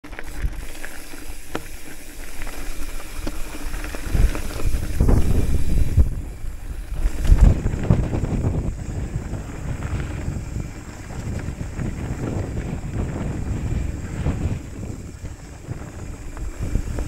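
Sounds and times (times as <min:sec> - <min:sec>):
bike clicks and rattles: 0:00.0 - 0:17.0
wind buffeting microphone: 0:02.8 - 0:17.0.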